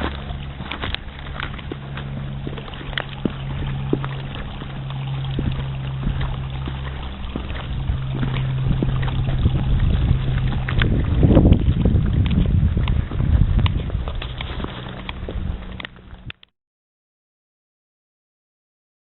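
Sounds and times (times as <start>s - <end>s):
low engine-like drone: 0.0s - 16.4s.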